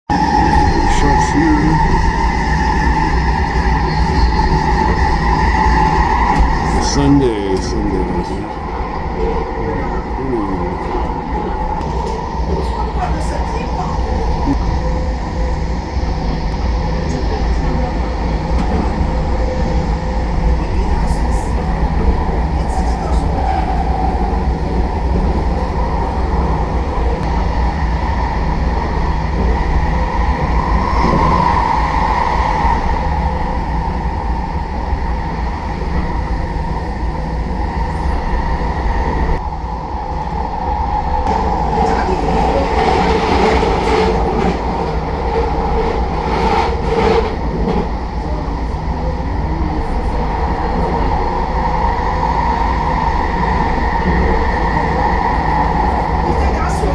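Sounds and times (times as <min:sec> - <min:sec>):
metro train rumbling with whine: 0:00.0 - 0:56.9.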